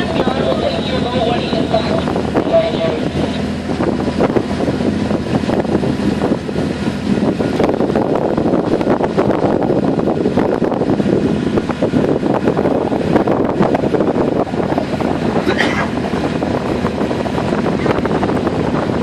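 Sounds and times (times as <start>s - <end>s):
boat engine running: 0.0s - 19.0s
wind buffeting microphone: 0.0s - 19.0s.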